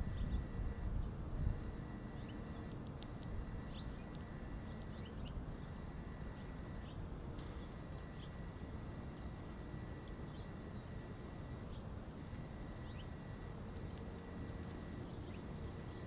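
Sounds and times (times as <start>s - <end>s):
steady low rumble: 0.0s - 16.0s
small birds chirping: 1.8s - 9.3s, 9.9s - 16.0s.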